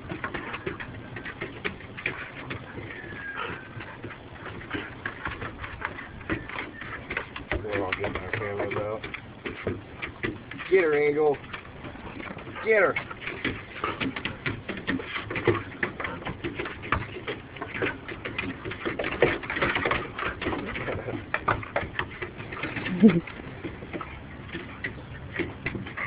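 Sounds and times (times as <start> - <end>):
animals scuffling in play: 0.0 - 26.0.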